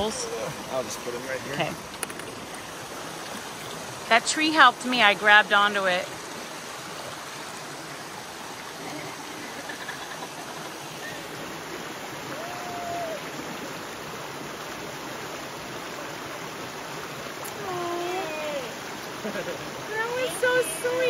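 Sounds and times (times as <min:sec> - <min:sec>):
stream splashing over rocks: 0:00.0 - 0:21.0.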